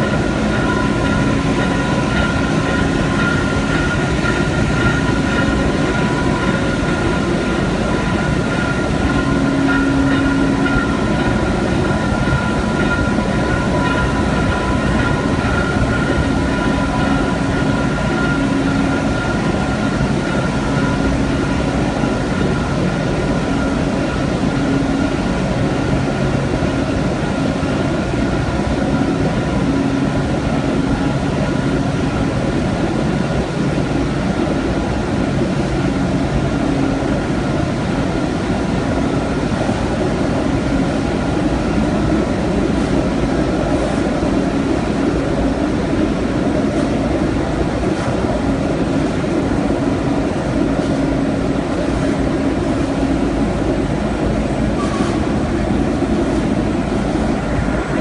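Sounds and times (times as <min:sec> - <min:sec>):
machine motors and rollers drone: 0:00.0 - 0:58.0.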